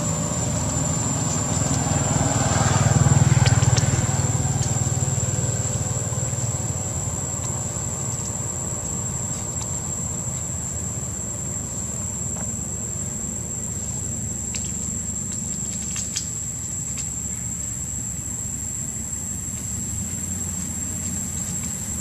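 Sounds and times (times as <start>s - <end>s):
motor engine running: 0.0s - 17.2s, 18.9s - 22.0s.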